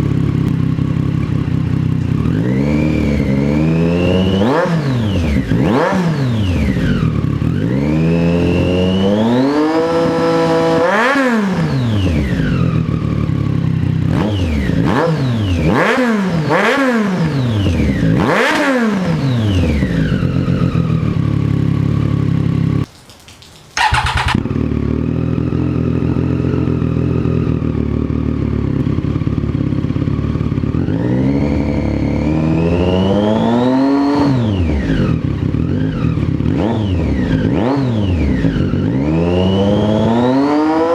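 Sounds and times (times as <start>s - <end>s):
motorcycle engine revving: 0.0s - 22.9s, 23.8s - 40.9s.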